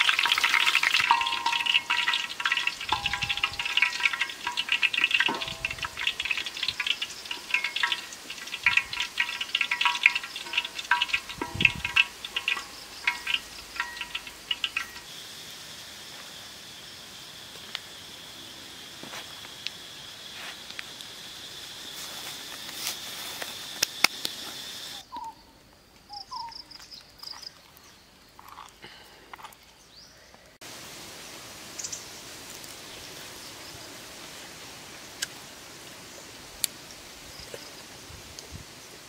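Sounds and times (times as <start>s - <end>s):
outdoor hiss: 0.0s - 26.2s, 28.8s - 39.0s.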